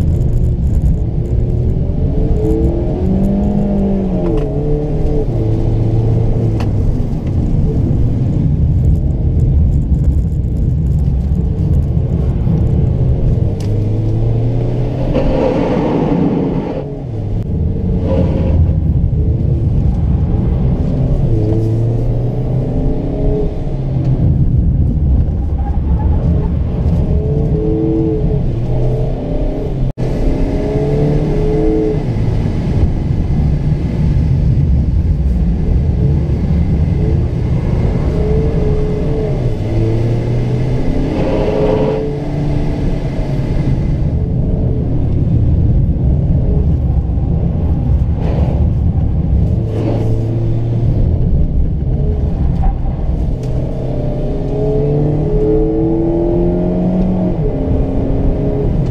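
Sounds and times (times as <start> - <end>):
car engine revving: 0.0 - 9.3, 10.9 - 58.9
car rumbling on wet road: 0.0 - 58.9.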